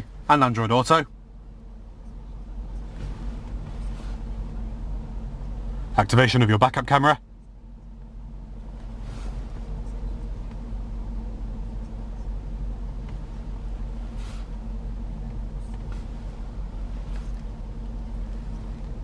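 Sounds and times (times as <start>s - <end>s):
car engine idling low rumble: 0.0s - 19.0s.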